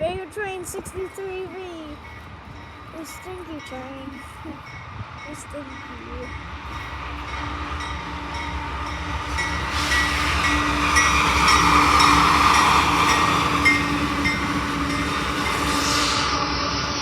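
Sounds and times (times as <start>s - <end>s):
freight train rolling past: 0.0s - 17.0s
train wheels clicking: 0.0s - 17.0s.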